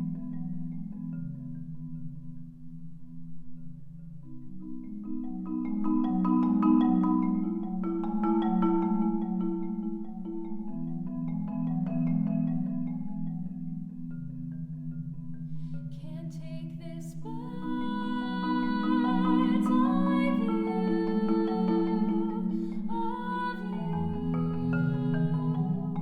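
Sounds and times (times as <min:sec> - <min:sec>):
marimba rolled chords: 0:00.0 - 0:15.9, 0:17.6 - 0:26.0.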